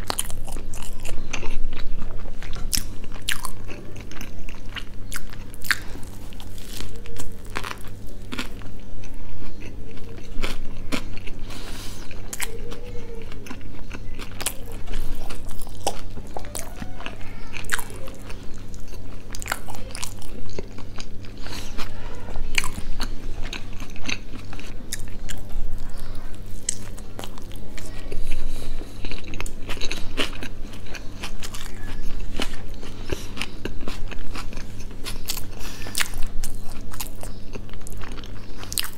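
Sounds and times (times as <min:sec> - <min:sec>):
chewing a burger: 0:00.0 - 0:38.9
steady low hum: 0:00.0 - 0:38.9.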